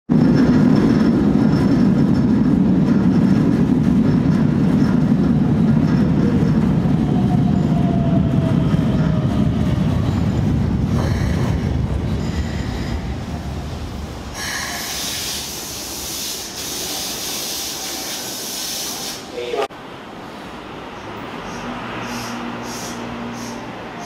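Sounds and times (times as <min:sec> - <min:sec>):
train wheels rumbling: 0:00.1 - 0:19.7, 0:20.5 - 0:24.0.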